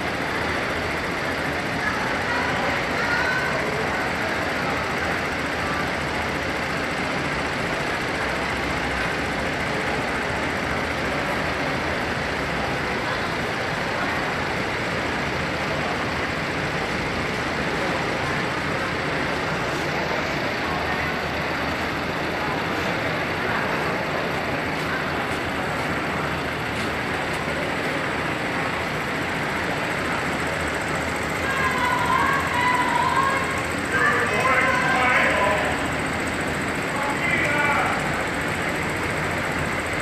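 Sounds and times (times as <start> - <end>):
crowd din: 0.0 - 40.0
vehicle engines idling: 0.0 - 40.0.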